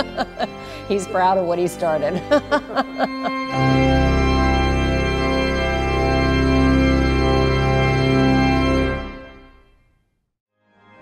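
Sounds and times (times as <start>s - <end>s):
pipe organ chords: 0.0s - 9.8s.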